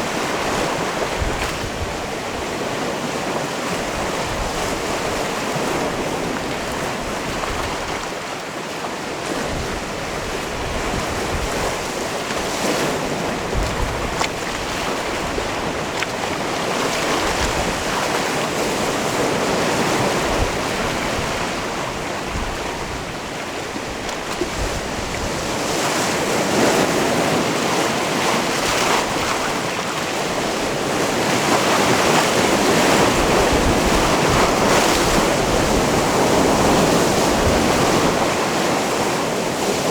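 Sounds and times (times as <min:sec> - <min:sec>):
sea waves on rocky shore: 0:00.0 - 0:39.9.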